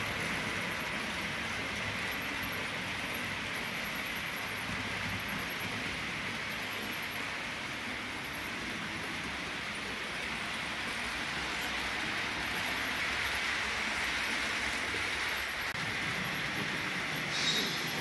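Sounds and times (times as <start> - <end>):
model train whirring rattle: 0.0 - 18.0.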